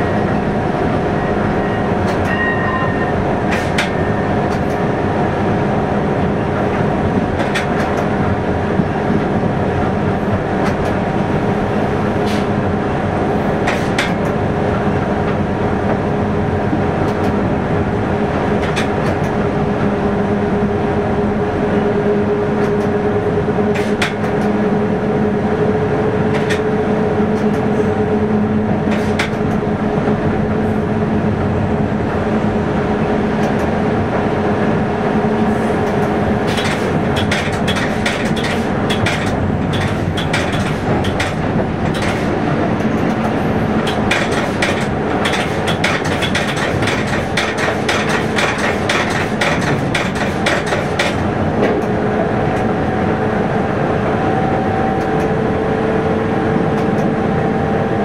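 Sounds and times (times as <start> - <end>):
train running noise with drone: 0.0 - 58.0.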